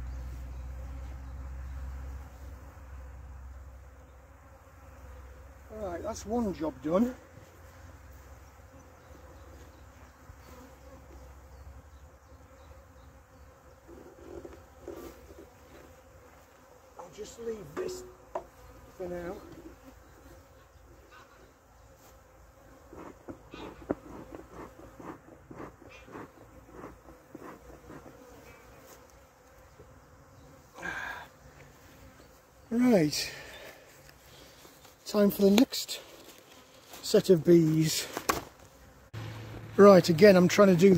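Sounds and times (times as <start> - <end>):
faint hum of bee colony: 0.0 - 40.9
honeybees buzzing: 0.0 - 40.9.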